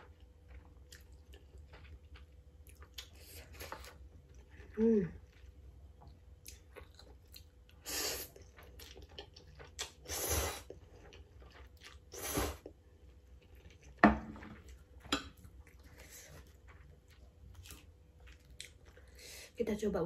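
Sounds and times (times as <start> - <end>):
wet chewing: 0.0 - 14.0, 14.6 - 19.2.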